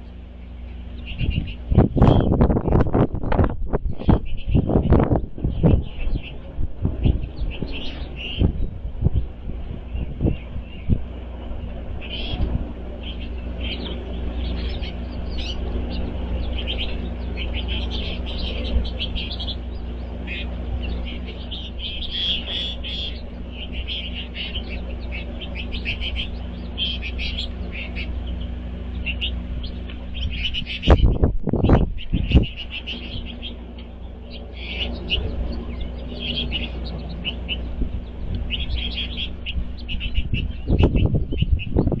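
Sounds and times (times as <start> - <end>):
finches twittering: 0.0 - 42.0
steady low hum: 0.0 - 42.0.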